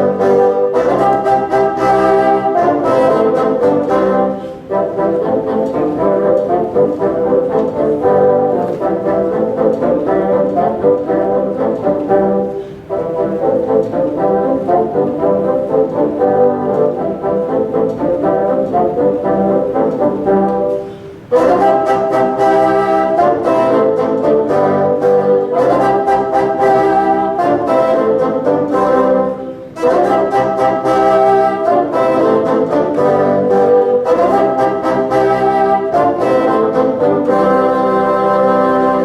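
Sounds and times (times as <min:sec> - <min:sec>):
bassoon ensemble playing chords: 0:00.0 - 0:39.0.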